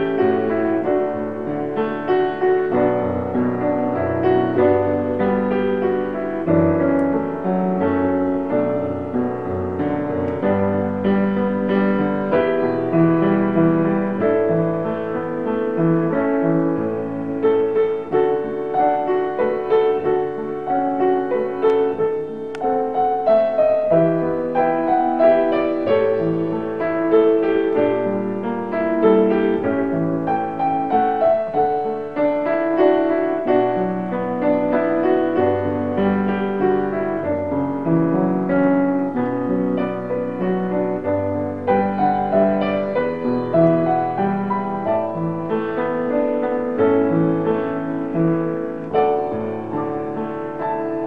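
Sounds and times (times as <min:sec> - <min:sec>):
solo piano playing hymn chords: 0:00.0 - 0:51.0.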